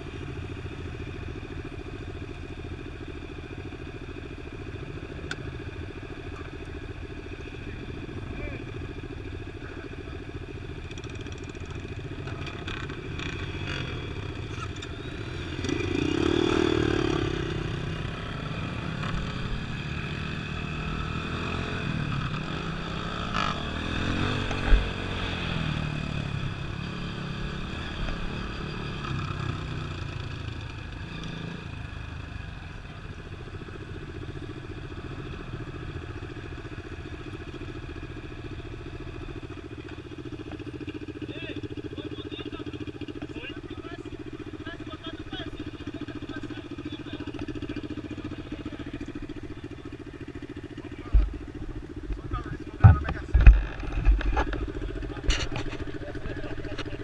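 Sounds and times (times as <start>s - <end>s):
off-road vehicle engine running: 0.0s - 57.0s.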